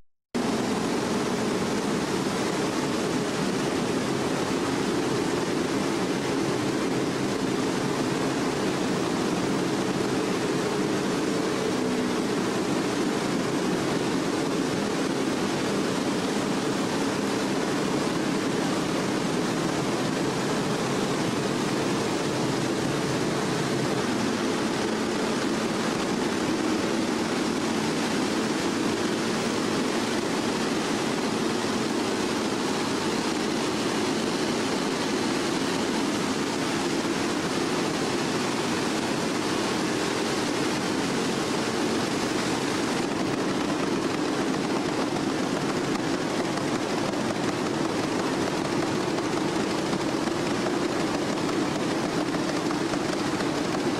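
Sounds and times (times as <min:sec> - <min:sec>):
water rushing from water wheel: 0:00.4 - 0:53.9.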